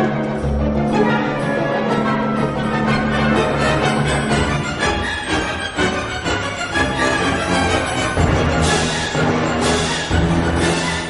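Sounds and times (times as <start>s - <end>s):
symphony orchestra playing: 0.0s - 11.0s.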